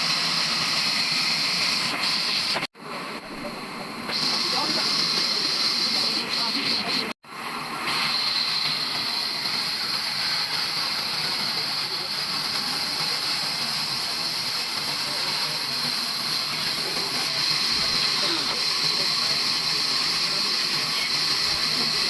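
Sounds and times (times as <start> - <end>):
sawmill machinery rushing hiss: 0.0 - 22.0.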